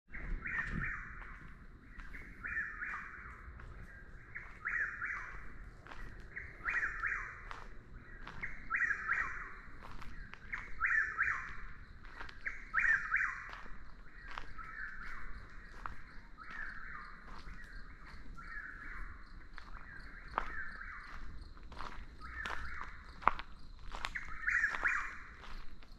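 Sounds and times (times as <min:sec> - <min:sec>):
bird singing repeated phrase: 0:00.2 - 0:21.2.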